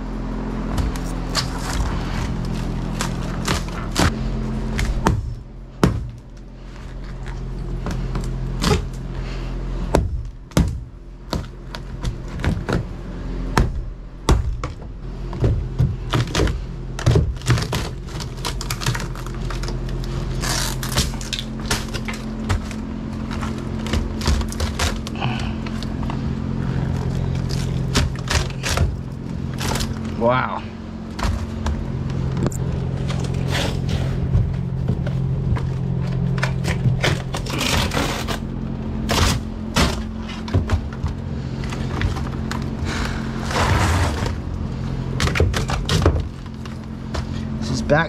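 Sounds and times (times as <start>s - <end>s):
wood splintering: 0.0s - 48.0s.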